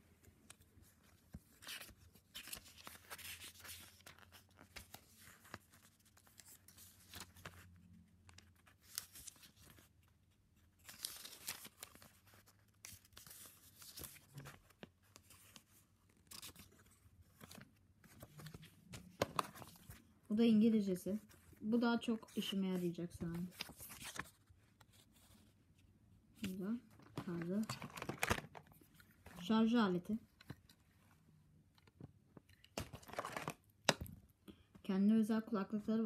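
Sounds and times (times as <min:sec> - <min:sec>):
paper pages rustling: 0:00.2 - 0:20.1, 0:21.1 - 0:29.6, 0:31.8 - 0:34.0.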